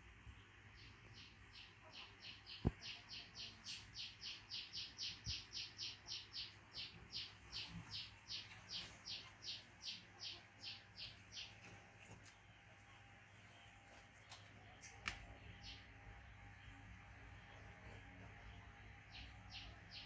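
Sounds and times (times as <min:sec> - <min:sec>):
small bird chirping: 0:00.4 - 0:20.0.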